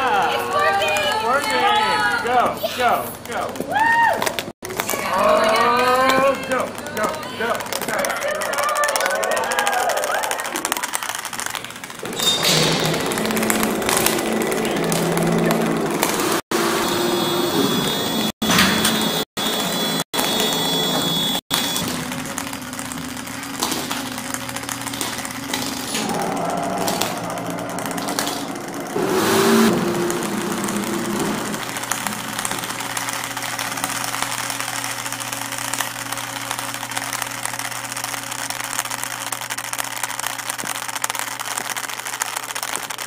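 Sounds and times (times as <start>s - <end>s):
phones toppling and clattering: 0.8s - 16.4s, 21.5s - 43.0s.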